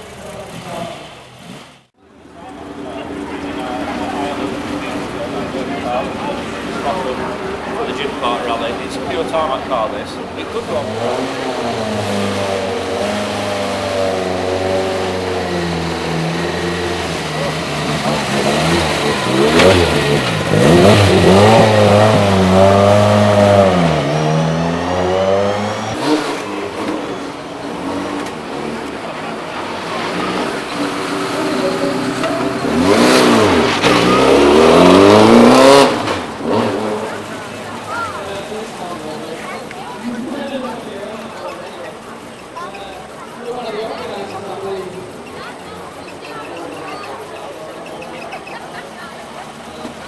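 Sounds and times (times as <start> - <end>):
rally car engine revving: 2.5 - 50.0.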